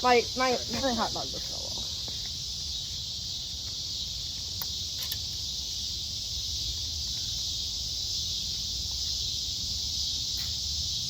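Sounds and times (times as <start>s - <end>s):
insects buzzing chorus: 0.0s - 11.0s.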